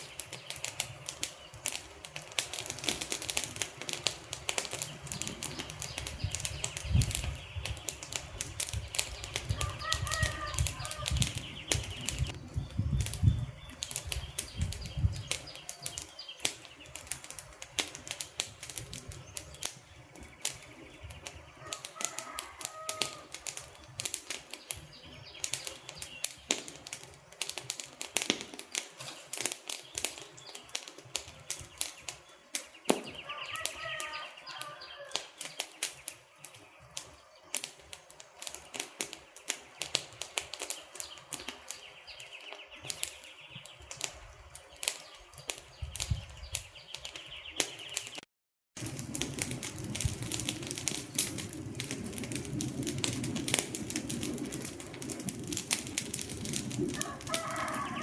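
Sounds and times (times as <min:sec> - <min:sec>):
flames rushing: 0:00.0 - 0:48.2, 0:48.8 - 0:58.0
wood fire crackling and popping: 0:00.0 - 0:58.0.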